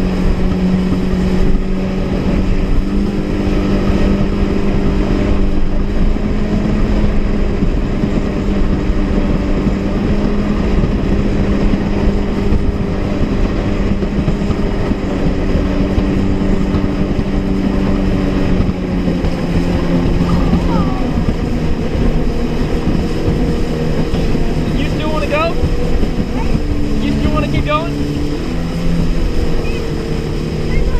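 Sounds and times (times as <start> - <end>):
jet ski engine running: 0.0 - 30.9
wind rushing over microphone: 0.0 - 30.9.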